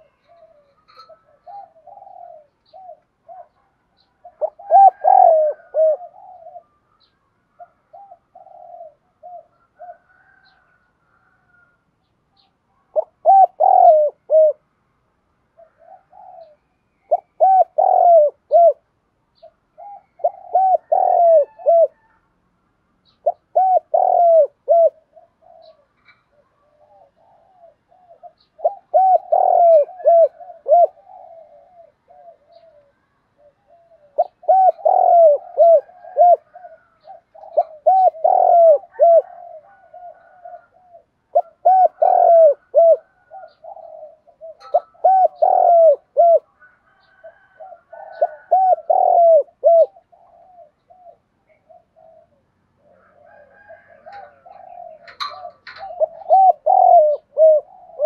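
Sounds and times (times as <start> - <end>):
dove cooing: 0.0 - 11.8, 12.4 - 14.7, 15.5 - 22.2, 23.0 - 58.0.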